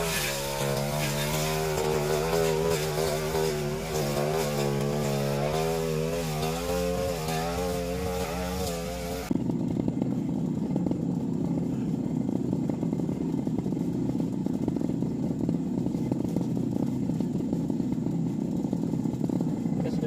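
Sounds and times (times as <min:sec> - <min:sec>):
brush cutter engine running: 0:00.0 - 0:20.0.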